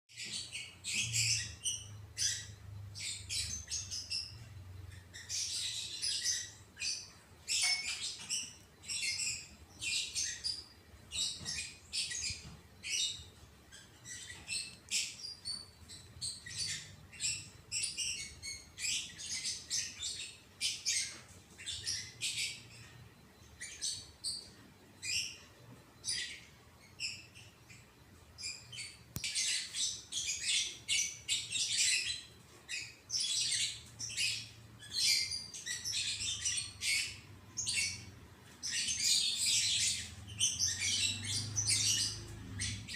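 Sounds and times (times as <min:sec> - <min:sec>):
small birds chirping: 0:00.1 - 0:42.9.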